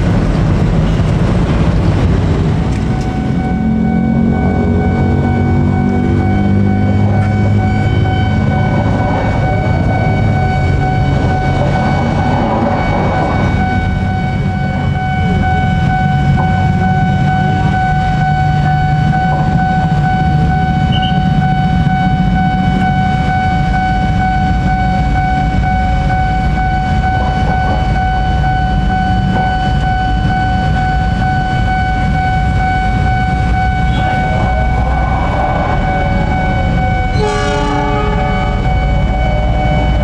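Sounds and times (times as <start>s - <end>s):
diesel locomotive rumbling: 0.0s - 40.0s
high whine: 0.0s - 40.0s.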